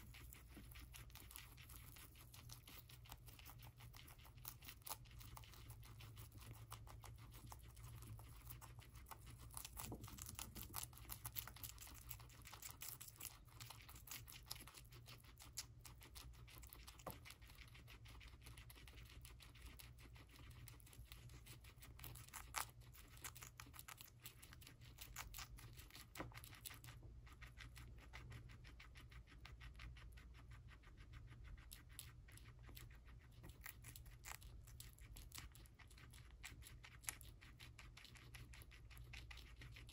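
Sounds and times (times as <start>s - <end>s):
guinea pigs chewing celery: 0.0s - 39.9s.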